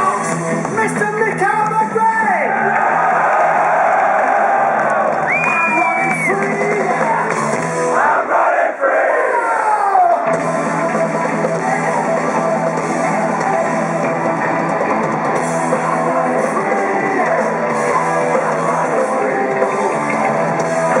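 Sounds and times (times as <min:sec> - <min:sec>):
heavy metal band playing: 0:00.0 - 0:03.8, 0:04.6 - 0:08.1, 0:10.0 - 0:21.0.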